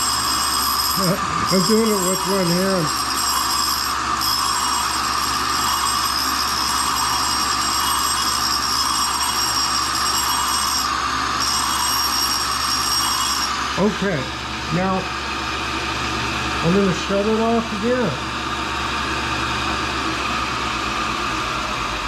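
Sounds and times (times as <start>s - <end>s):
grinding wheel hissing: 0.0s - 22.0s
motor hum: 0.0s - 22.0s.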